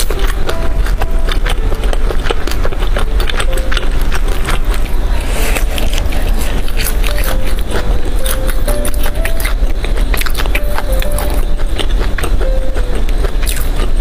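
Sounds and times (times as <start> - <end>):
chewing food: 0.0 - 14.0
crunchy bite: 0.0 - 14.0.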